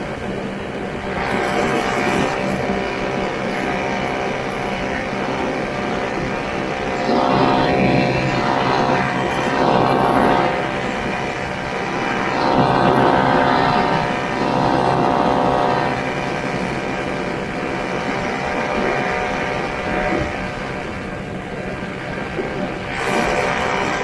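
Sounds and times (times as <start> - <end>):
snowmobile engine running: 0.0 - 24.0.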